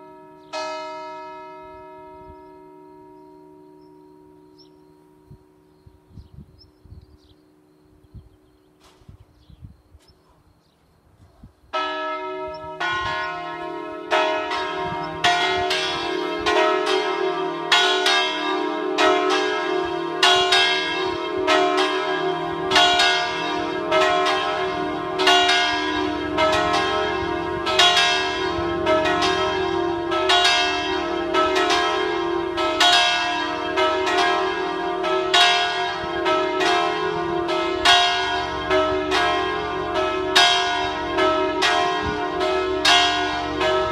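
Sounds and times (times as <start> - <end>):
church bells ringing: 0.0 - 6.1, 11.7 - 43.9.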